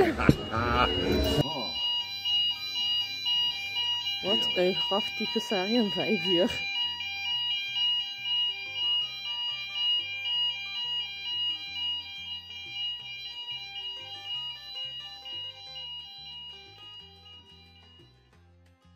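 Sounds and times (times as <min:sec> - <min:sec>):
high held tones: 0:00.0 - 0:18.4.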